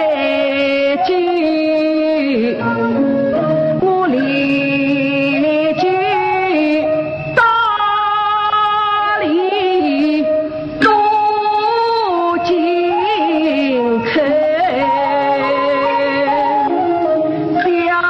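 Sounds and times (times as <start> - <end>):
traditional instrumental accompaniment: 0.0 - 18.0
woman singing opera: 0.0 - 18.0.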